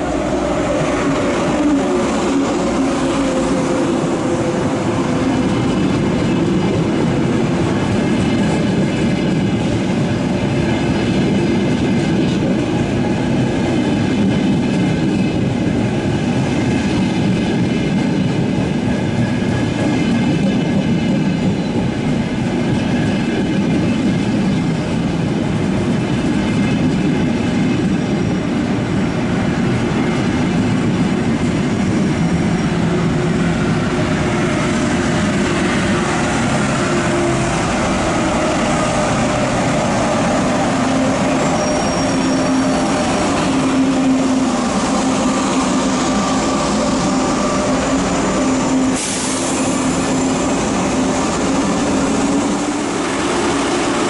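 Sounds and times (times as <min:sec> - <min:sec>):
train wheels running on track: 0:00.0 - 0:54.0.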